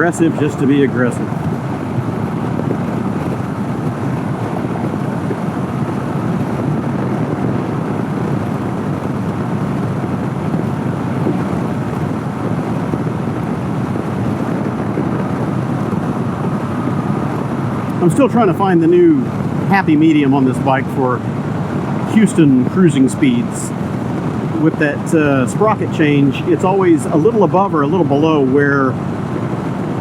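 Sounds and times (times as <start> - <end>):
road noise: 0.0 - 30.0
wind rush over microphone: 0.0 - 30.0.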